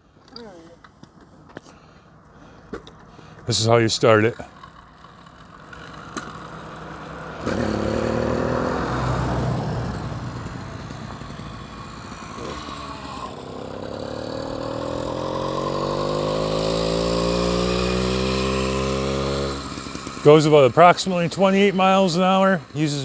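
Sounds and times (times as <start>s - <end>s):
two-stroke engine starting and running: 0.2s - 23.0s.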